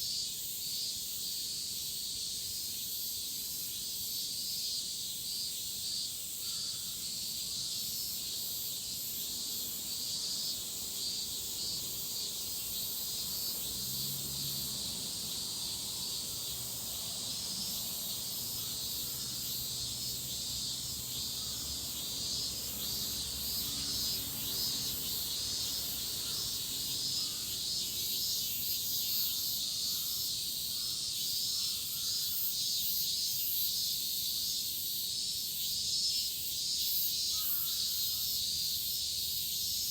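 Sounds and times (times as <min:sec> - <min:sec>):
cicadas shrilling: 0:00.0 - 0:39.9.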